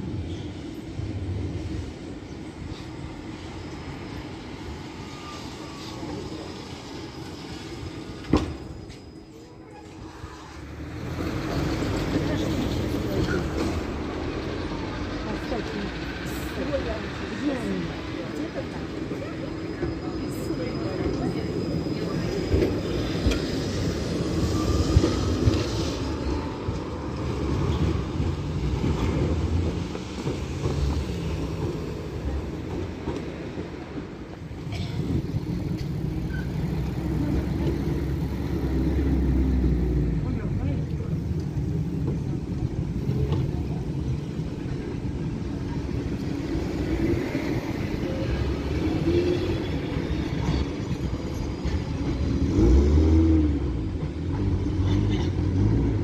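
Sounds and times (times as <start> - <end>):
tram hum and rumble: 0.0 - 56.0.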